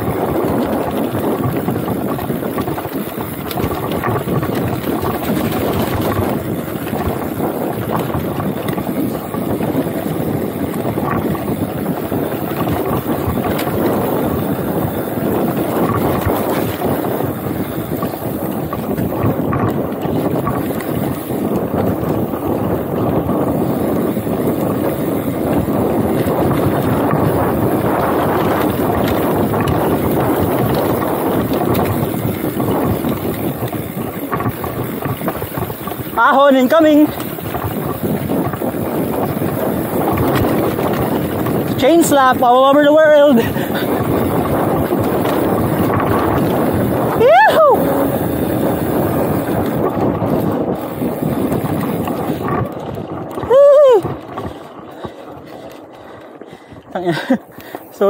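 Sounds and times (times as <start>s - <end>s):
bike knocks and rattles: 0.0s - 42.7s, 43.4s - 58.0s
tyres rumbling on dirt: 0.0s - 58.0s
wind on microphone: 0.0s - 58.0s.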